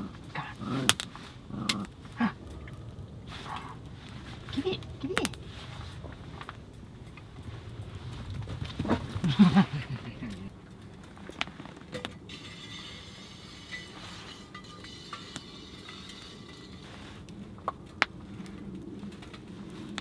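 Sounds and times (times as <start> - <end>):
twig fire crackling: 0.0 - 20.0.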